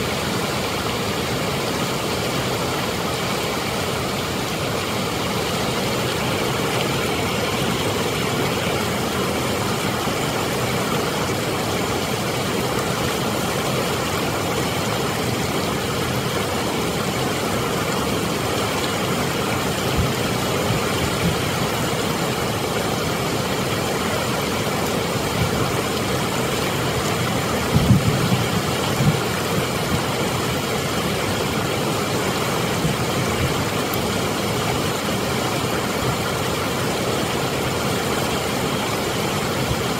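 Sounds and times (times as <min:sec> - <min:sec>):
water rushing over dam spillway: 0:00.0 - 0:39.9.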